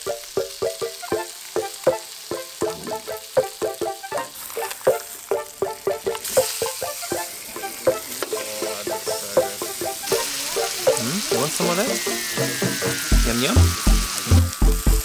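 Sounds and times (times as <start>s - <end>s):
fish sizzling in a frying pan: 0.0s - 15.0s
rhythmic plucked music: 0.0s - 15.0s.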